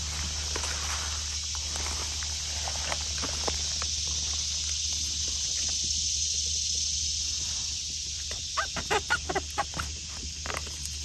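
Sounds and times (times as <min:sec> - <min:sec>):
high-pitched woodland ambience: 0:00.0 - 0:11.0.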